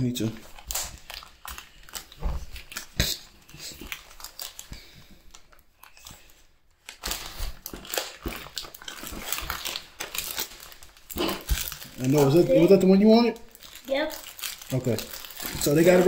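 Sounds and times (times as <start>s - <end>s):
plastic pouches tearing and crinkling: 0.1s - 16.0s.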